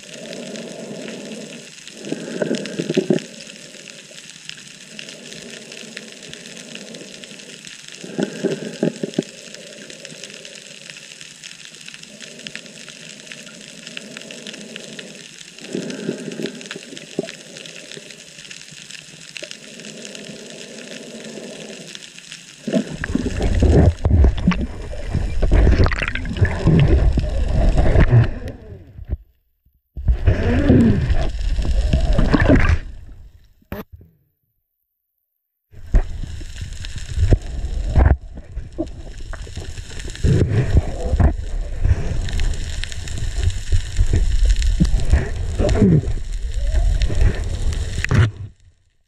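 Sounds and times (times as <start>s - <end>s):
water hissing against camera: 0.0s - 29.2s, 30.0s - 33.8s, 35.8s - 48.6s.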